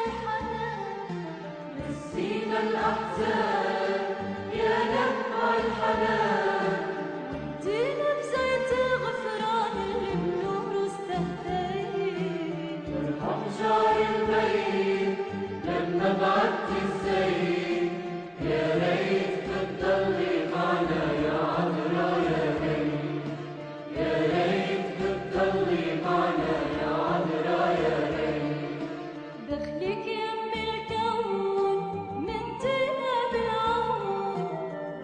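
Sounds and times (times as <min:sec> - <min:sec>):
choir-like musical backing: 0:00.0 - 0:35.0
person singing a hymn: 0:01.7 - 0:30.4.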